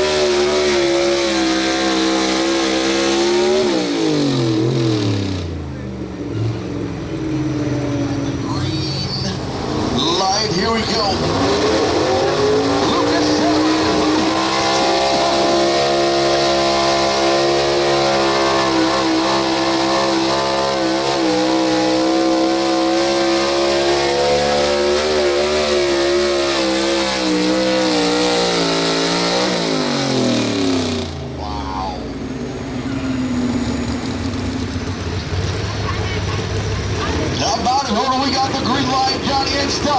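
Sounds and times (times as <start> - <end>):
truck engine at full throttle: 0.0 - 39.9.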